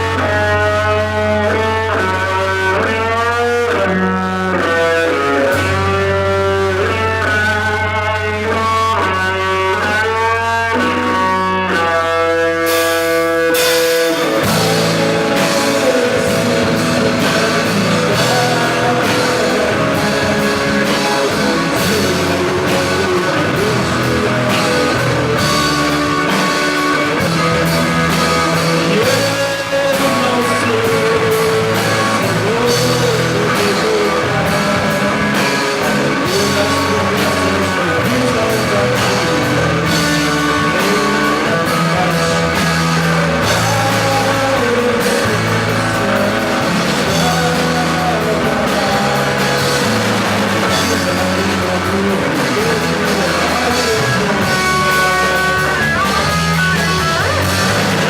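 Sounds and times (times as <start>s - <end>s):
drum kit: 0.0s - 58.0s
electric guitar melody: 0.0s - 58.0s.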